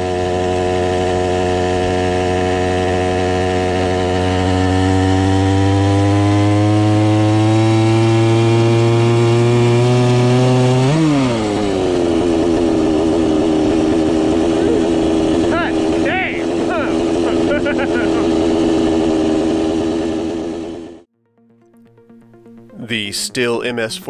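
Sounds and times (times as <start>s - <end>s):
chainsaw engine running hard: 0.0s - 21.1s.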